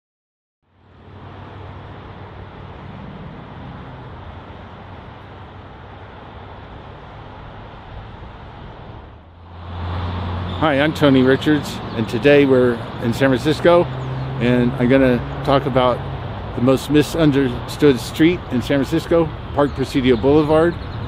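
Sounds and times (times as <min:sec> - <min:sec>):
passing cars humming: 0:00.7 - 0:21.0.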